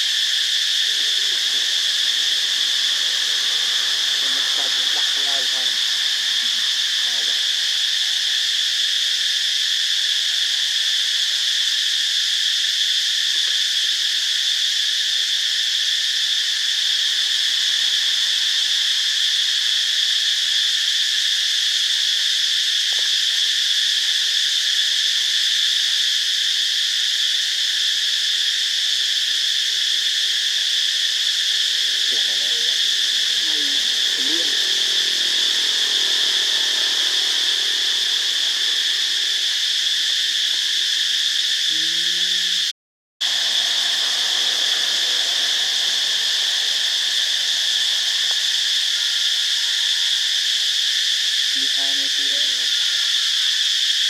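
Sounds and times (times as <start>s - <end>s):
high-pitched insects droning: 0.0s - 54.0s.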